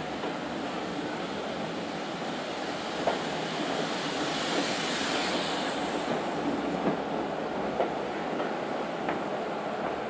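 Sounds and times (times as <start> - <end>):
steam train rushing: 0.0 - 10.0.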